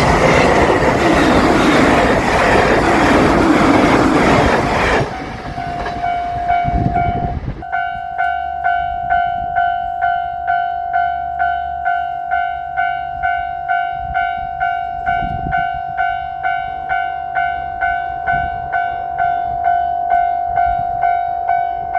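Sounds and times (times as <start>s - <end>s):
passing train running noise: 0.0s - 21.9s.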